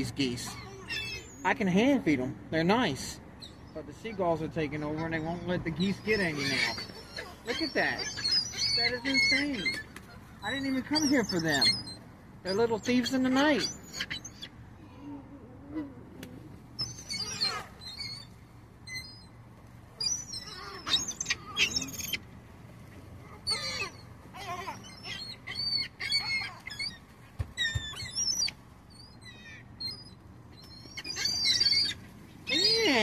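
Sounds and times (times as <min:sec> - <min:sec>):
seagulls calling: 0:00.0 - 0:33.0.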